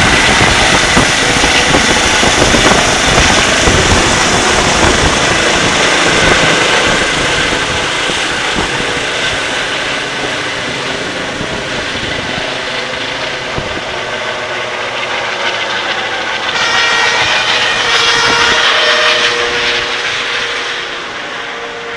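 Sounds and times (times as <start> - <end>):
helicopter turbine and rotor: 0.0 - 21.9.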